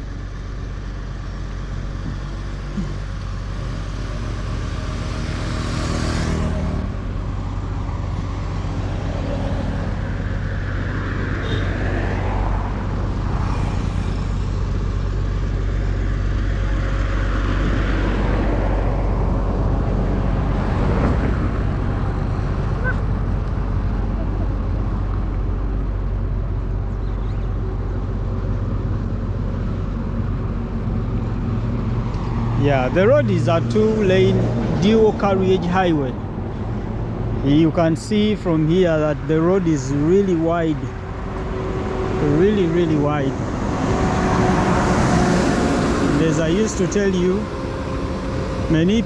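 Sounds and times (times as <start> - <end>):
low traffic rumble: 0.0 - 49.0
vehicles passing: 0.0 - 49.0.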